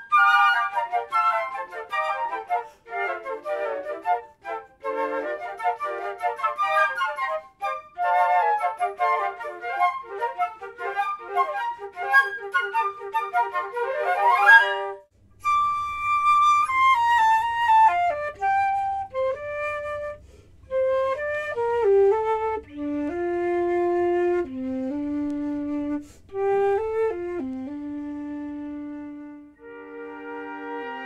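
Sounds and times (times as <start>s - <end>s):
flute quartet playing: 0.0s - 31.0s.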